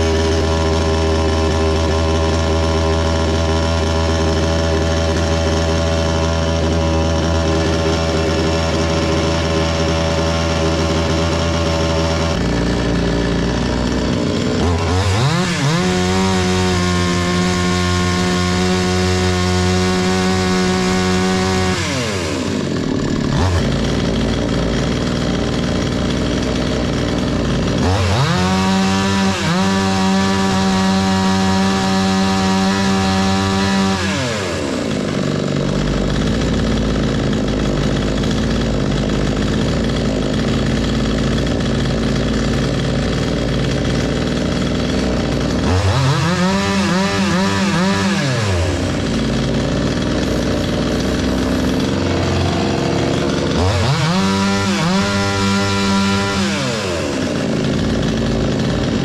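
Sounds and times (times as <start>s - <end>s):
chainsaw engine idling and revving: 0.0s - 59.0s.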